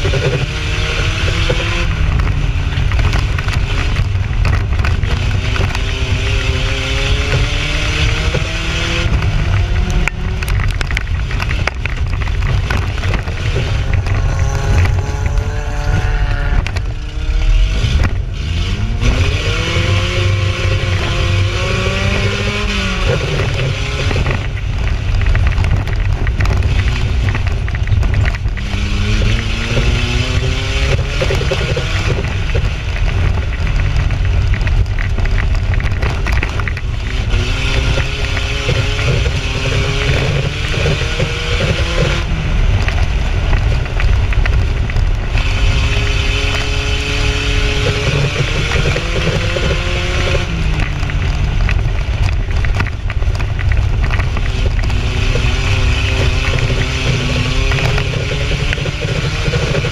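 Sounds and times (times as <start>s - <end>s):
car engine revving: 0.0s - 59.9s
low rumble and rattle: 0.0s - 59.9s.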